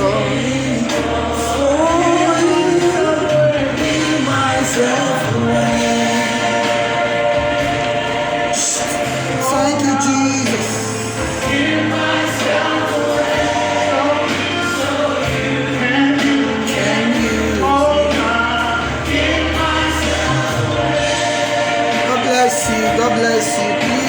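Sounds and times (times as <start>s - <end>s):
band playing: 0.0s - 24.0s
choir singing: 0.0s - 24.0s.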